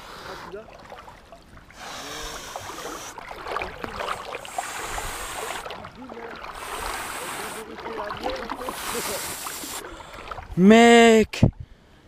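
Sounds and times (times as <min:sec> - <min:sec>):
river water splashing: 0:00.0 - 0:11.3.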